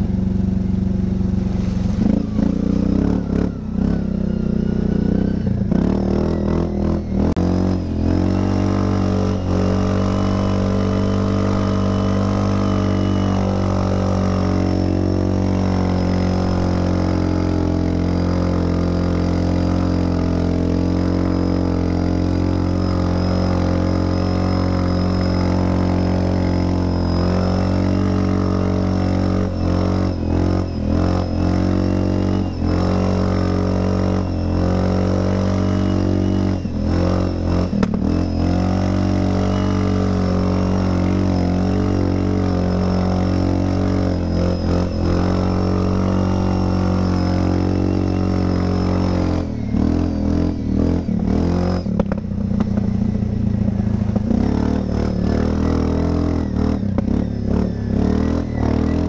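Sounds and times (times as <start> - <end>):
atv engine running under load: 0.0 - 59.0.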